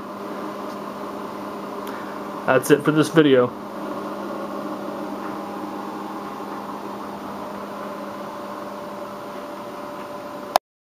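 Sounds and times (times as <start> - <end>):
electronic hum: 0.0 - 10.6.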